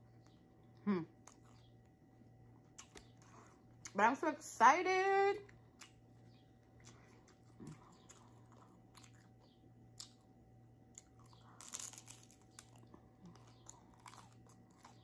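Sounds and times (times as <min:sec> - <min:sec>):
chewing crisp food: 0:00.0 - 0:04.0, 0:05.4 - 0:15.0.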